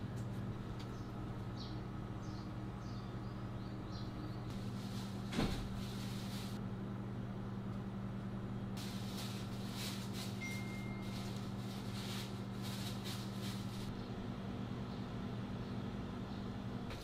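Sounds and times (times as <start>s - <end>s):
electrical hum of kitchen equipment: 0.0s - 17.0s.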